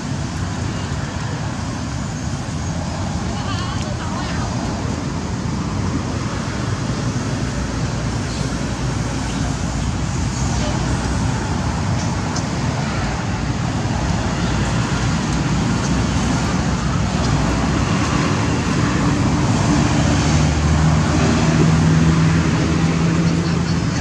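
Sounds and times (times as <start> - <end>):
road traffic noise: 0.0 - 24.0
vehicle engine humming: 0.0 - 24.0.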